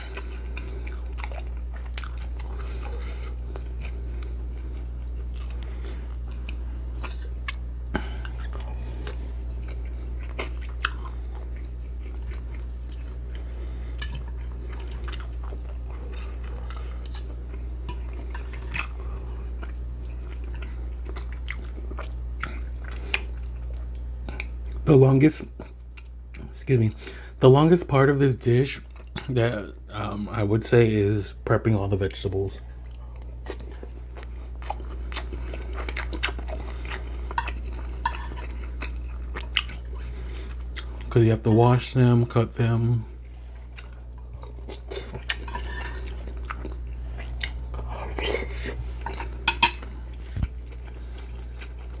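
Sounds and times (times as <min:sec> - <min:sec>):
person chewing food: 0:00.0 - 0:24.8, 0:25.6 - 0:27.2, 0:28.8 - 0:29.4, 0:32.7 - 0:41.2, 0:43.1 - 0:52.0
steady low hum: 0:00.0 - 0:52.0.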